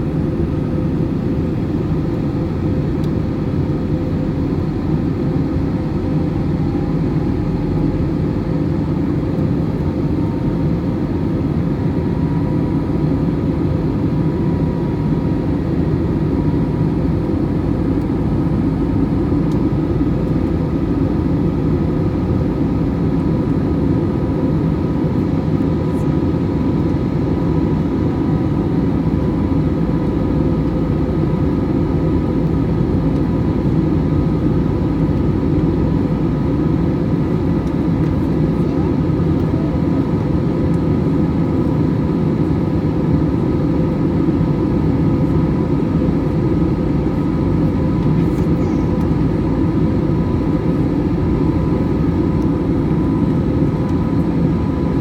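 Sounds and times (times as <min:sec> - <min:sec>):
faint steady whine: 0:00.0 - 0:55.0
jet airliner cabin noise: 0:00.0 - 0:55.0.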